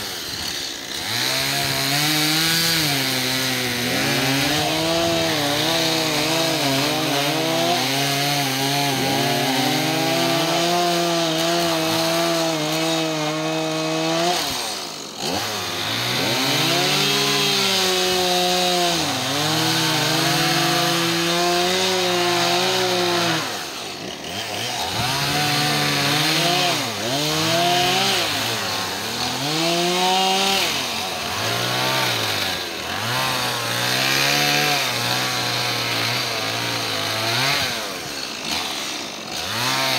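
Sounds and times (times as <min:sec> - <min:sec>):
chainsaw cutting branches: 0:00.0 - 0:39.9.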